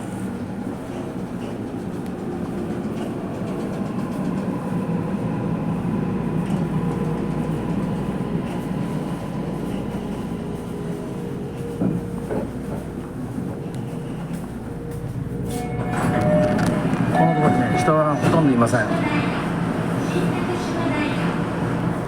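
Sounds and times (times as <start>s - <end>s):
train motor hum: 0.0s - 22.0s
train wheels rumbling on rail: 0.0s - 22.0s.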